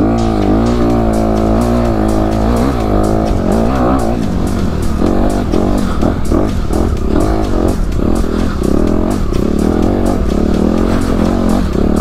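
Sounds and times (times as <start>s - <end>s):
background music: 0.0s - 12.0s
dirt bike engine revving: 0.0s - 12.0s.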